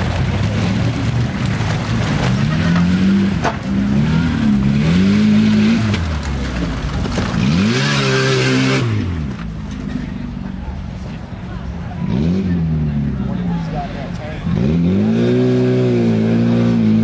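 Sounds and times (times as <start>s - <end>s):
car engine revving: 0.0s - 11.2s, 11.9s - 17.0s.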